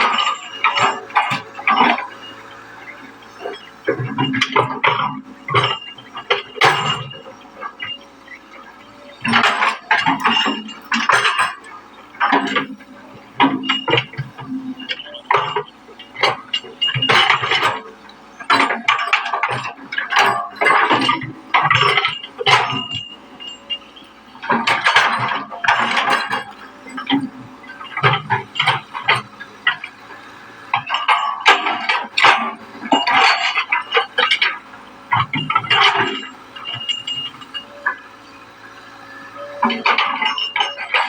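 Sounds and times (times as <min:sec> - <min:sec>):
excavator metallic clanks: 0:00.0 - 0:41.0.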